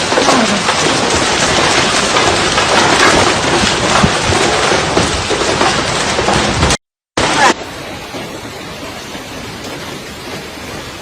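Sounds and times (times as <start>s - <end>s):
hail clattering on hard surfaces: 0.0s - 11.0s.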